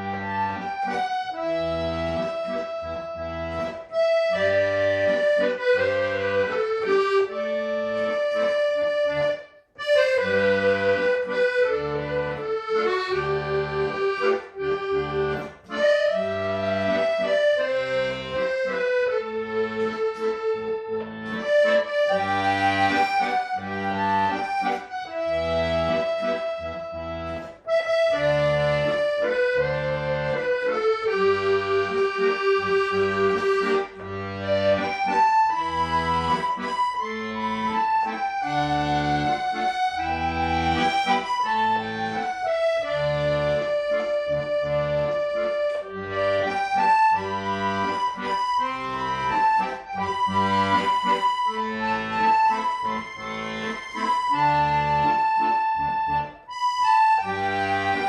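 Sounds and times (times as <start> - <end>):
accordion playing slow melody: 0.0 - 58.0.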